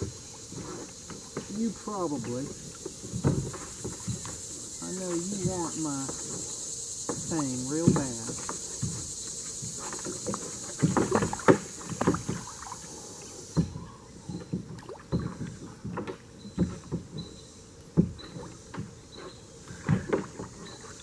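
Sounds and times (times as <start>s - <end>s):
high insect buzz: 0.0s - 21.0s
knocks and scrapes on kayak: 0.0s - 21.0s.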